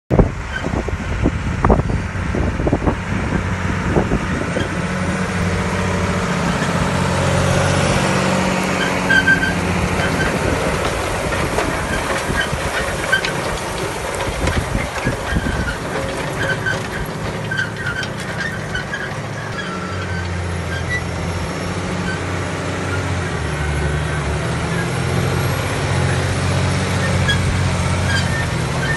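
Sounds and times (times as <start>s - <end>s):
tractor engine under load: 0.2s - 28.9s.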